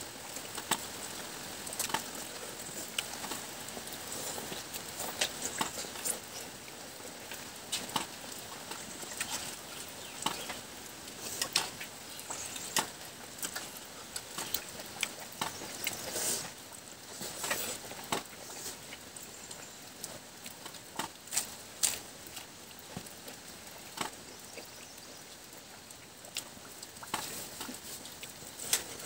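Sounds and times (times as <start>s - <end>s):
man chewing food: 0.0s - 29.0s.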